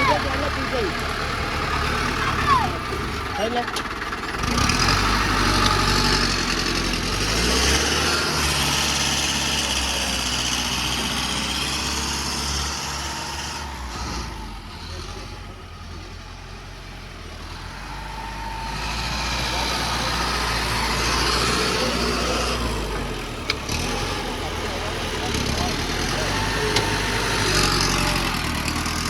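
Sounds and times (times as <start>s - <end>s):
tractor engine running hard: 0.0s - 29.0s.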